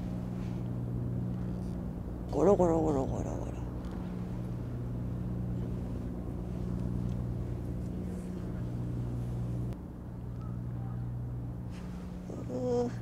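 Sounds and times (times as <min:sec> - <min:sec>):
ship engine drone: 0:00.0 - 0:13.0.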